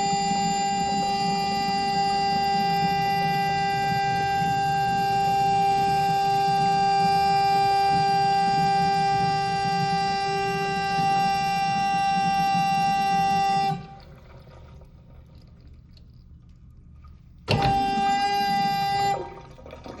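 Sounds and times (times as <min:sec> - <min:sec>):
toilet flush valve tone: 0:00.0 - 0:20.0.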